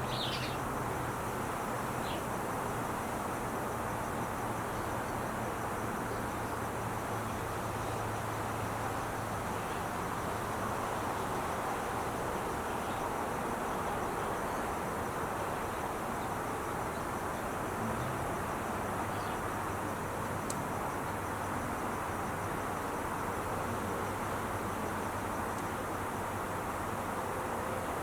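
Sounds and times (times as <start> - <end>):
faint insect chirping: 0.0 - 28.0
freeway traffic hum: 0.0 - 28.0.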